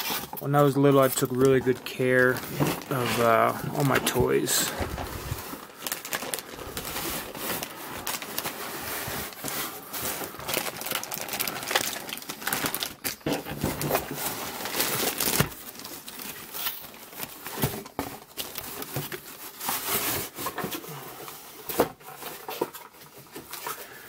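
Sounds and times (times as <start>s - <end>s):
plastic bag crinkling: 0.0s - 20.0s
cardboard and paper rustling: 0.0s - 24.0s.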